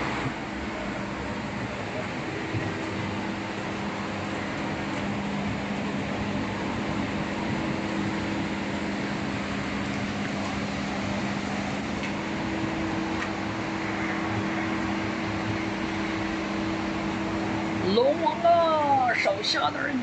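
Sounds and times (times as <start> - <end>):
heavy rain hissing: 0.0 - 20.0
vehicle engine hum: 0.0 - 20.0.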